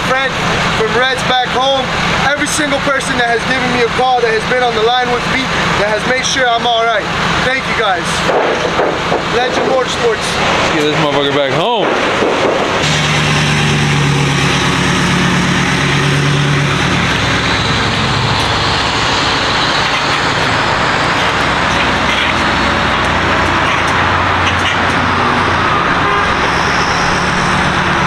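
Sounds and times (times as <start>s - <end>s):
road and traffic noise: 0.0s - 28.0s
truck engine droning: 0.0s - 28.0s.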